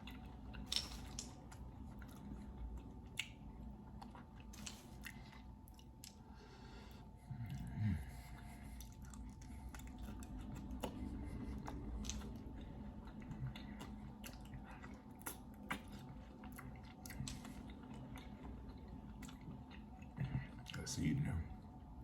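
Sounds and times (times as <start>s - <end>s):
person chewing: 0.0s - 20.8s.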